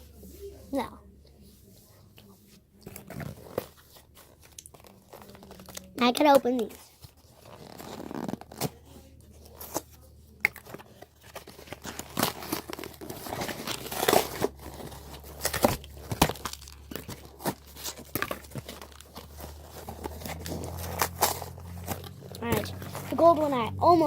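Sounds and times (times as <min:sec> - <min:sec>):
plastic packaging tearing and crinkling: 0:02.8 - 0:23.5.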